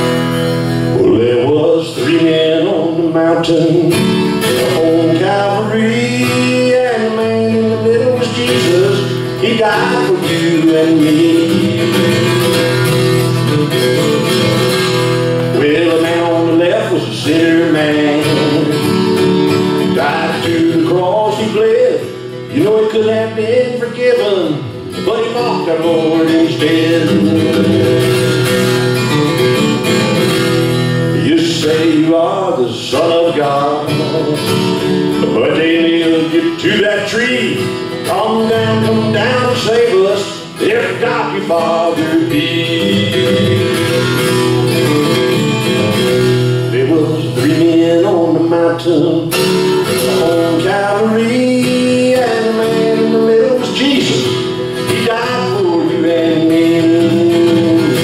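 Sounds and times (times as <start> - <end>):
acoustic guitar: 0.0 - 58.0
man singing into microphone: 0.8 - 12.9, 15.4 - 28.3, 30.9 - 44.2, 46.4 - 58.0.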